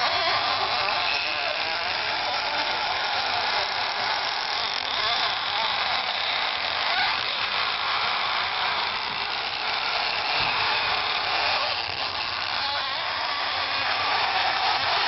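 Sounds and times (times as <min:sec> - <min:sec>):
engine whirring buzz: 0:00.0 - 0:15.0.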